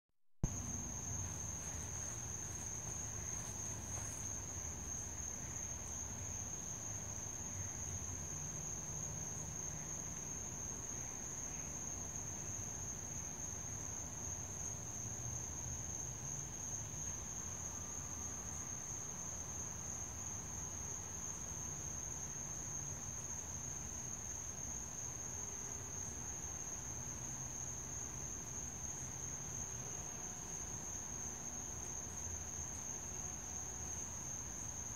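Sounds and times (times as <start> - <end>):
night insects trilling: 0.4 - 34.9.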